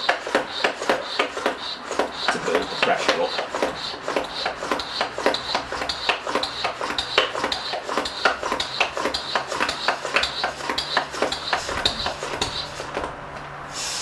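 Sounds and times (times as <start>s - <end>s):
hand pump plunger clicking: 0.0s - 13.1s.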